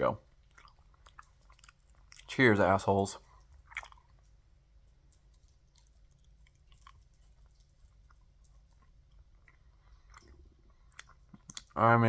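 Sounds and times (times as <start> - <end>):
faint chewing: 0.2 - 2.4, 3.2 - 11.8.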